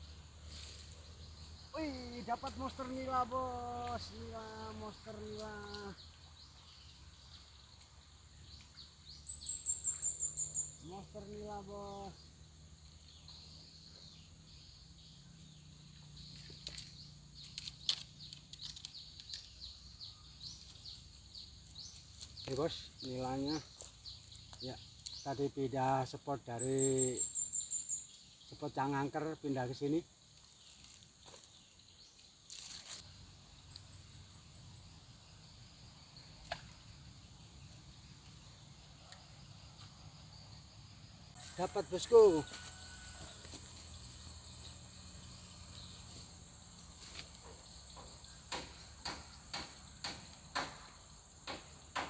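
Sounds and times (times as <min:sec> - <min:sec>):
rustle: 0:00.0 - 0:25.3, 0:29.5 - 0:51.3
birds chirping: 0:00.0 - 0:52.0
insects droning: 0:00.0 - 0:52.0.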